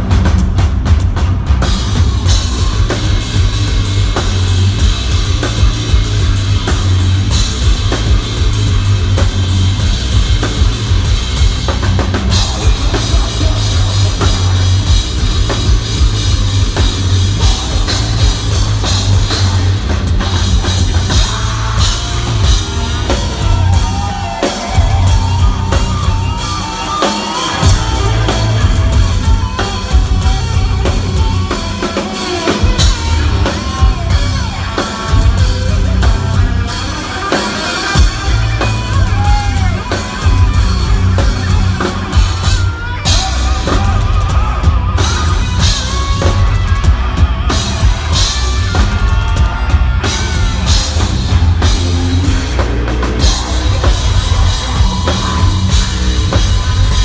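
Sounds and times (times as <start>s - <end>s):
heavy metal band playing live: 0.0s - 57.0s
pounding drum kit: 0.0s - 57.0s.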